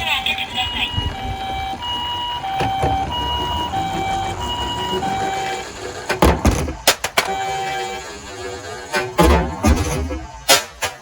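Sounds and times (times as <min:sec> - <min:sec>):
toy ambulance hi-lo siren: 0:00.0 - 0:09.1.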